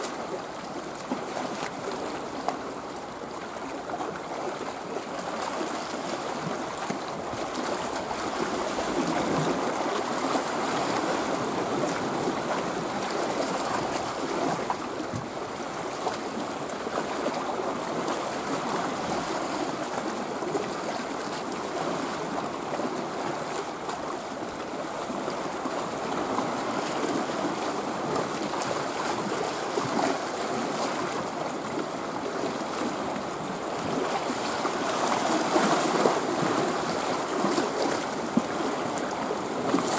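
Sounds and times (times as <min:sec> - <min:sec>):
small waves splashing: 0:00.0 - 0:39.9.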